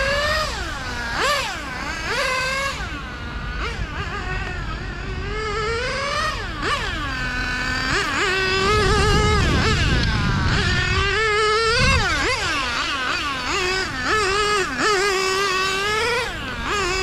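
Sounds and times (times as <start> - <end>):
rc car nitro engine revving: 0.0 - 17.0.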